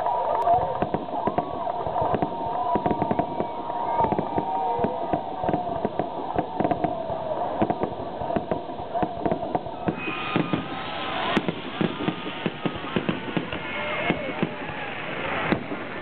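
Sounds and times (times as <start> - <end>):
fireworks bangs and pops: 0.0 - 16.0
fireworks hissing crackle: 0.0 - 16.0.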